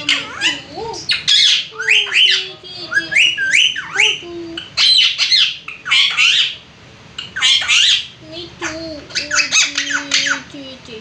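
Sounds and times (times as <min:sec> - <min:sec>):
parrot whistling and squawking: 0:00.0 - 0:10.5.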